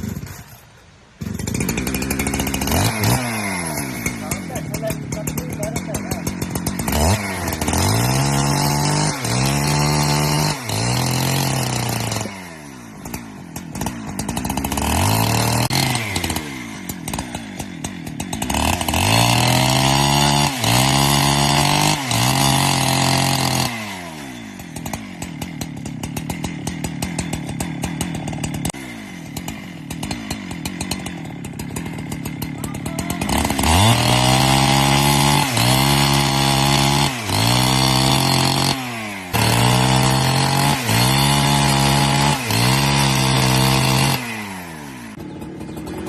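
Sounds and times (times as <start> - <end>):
chainsaw engine revving: 0.0 - 46.0.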